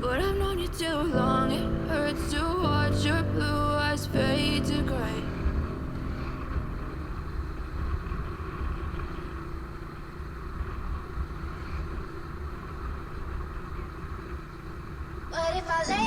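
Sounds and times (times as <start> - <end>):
motorcycle engine rumbling: 0.0 - 15.3.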